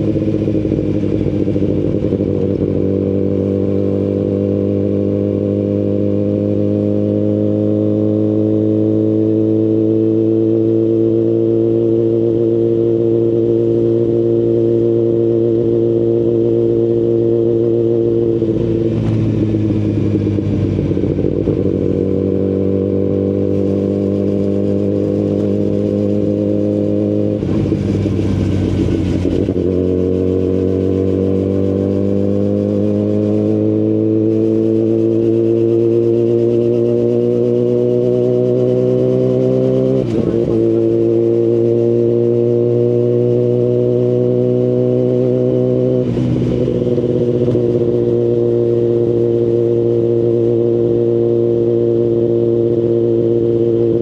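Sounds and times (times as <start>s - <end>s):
motorcycle engine while riding: 0.0s - 54.0s.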